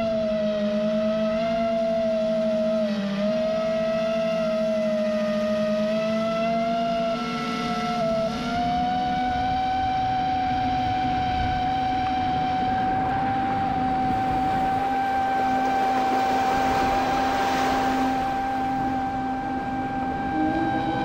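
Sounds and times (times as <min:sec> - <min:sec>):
constant rushing noise: 0:00.0 - 0:21.0
drone motors whining: 0:00.0 - 0:21.0.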